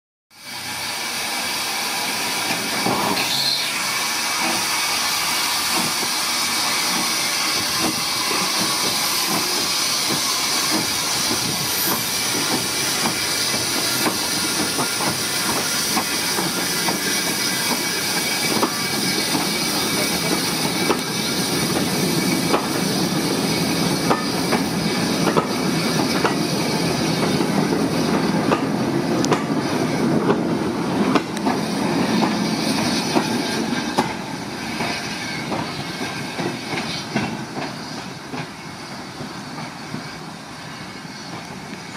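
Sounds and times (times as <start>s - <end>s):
steam locomotive hissing: 0.3s - 41.9s
train clatter and rumble: 0.6s - 41.9s.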